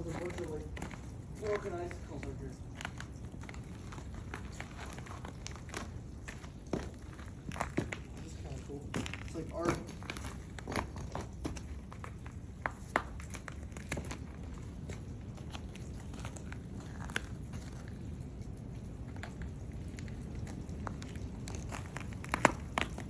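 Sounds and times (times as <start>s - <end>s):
footsteps crunching on ice: 0.0s - 23.0s.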